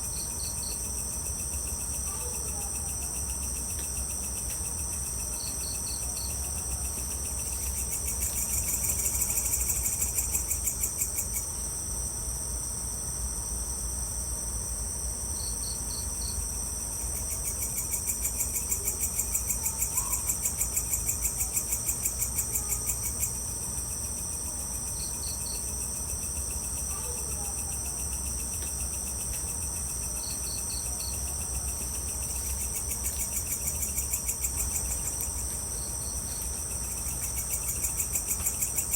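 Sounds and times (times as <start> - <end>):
loud pulsing insect trill: 0.0 - 38.9
night insects trilling: 0.0 - 38.9.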